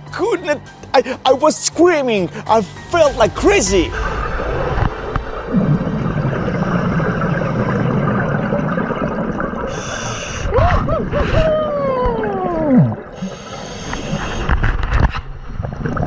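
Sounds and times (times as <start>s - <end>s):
regulator breathing and bubbles: 2.3s - 16.0s.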